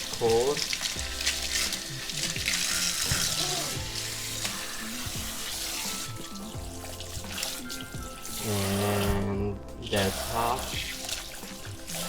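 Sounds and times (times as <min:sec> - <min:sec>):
water running into sink: 0:00.0 - 0:12.0.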